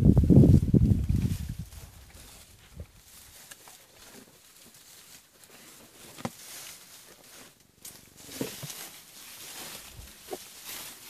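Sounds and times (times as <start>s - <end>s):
rustling in dry grass: 0.0s - 11.0s.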